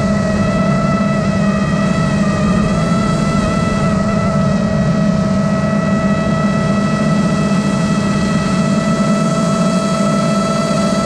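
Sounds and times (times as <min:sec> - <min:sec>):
drone propellers whining: 0:00.0 - 0:11.0
low rushing drone: 0:00.0 - 0:11.0.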